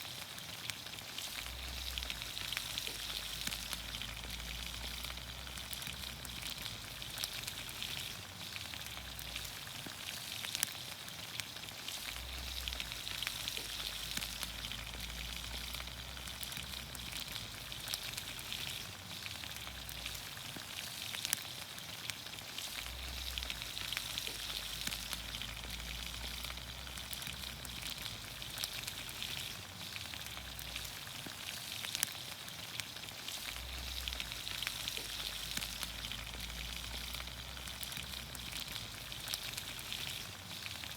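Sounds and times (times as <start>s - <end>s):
vegetables sizzling in a pan: 0.0s - 40.9s
sharp pops and crackles: 0.4s - 40.9s.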